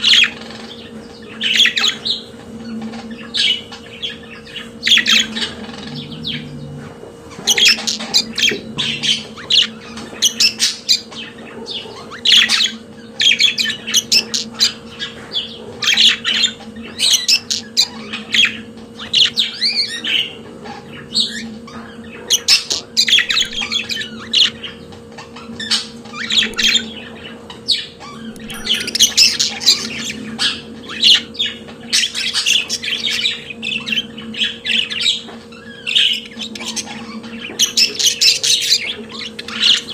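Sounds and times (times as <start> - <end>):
budgerigars chattering: 0.0 - 39.9
steady low hum: 0.0 - 39.9.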